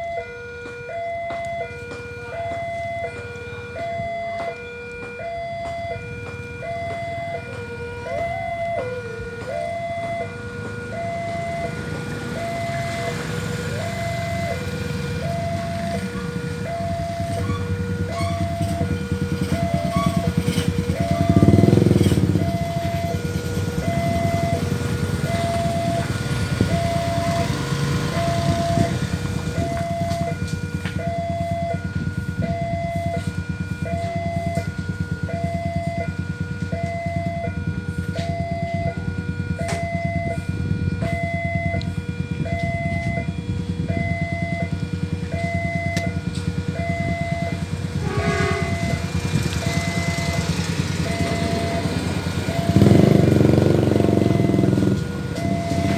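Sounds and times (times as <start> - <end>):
two-tone level crossing alarm: 0.0 - 55.9
passing train rumble: 4.3 - 55.9.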